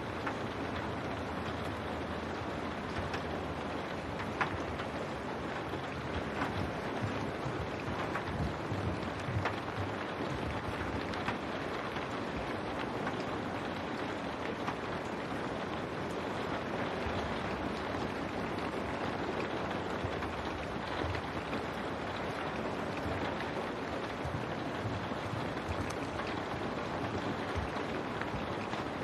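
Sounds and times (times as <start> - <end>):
rain on window glass: 0.0 - 29.0.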